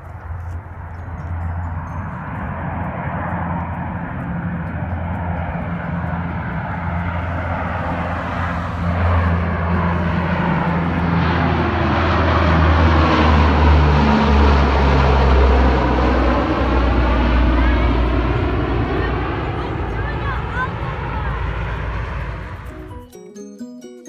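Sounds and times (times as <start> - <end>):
turboprop aircraft propeller drone: 0.0 - 23.1.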